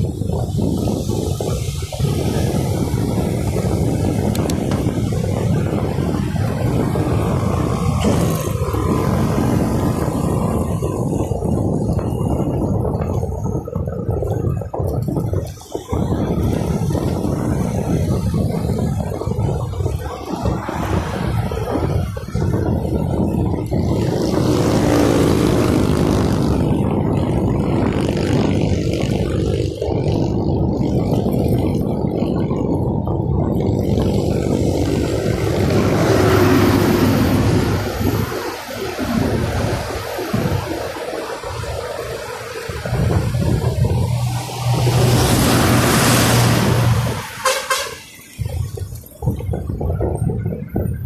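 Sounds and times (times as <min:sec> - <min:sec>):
vehicle and road rumble: 0:00.0 - 0:51.0
wind buffeting microphone: 0:00.0 - 0:51.0.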